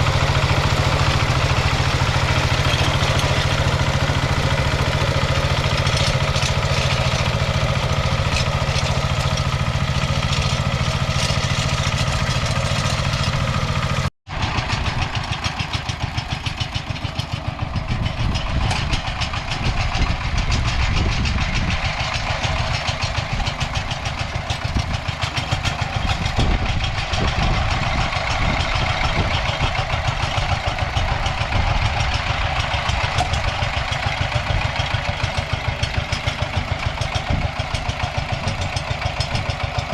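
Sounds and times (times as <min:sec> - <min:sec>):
diesel tractor engine chugging: 0:00.0 - 0:39.9
engine rattle: 0:00.0 - 0:39.9.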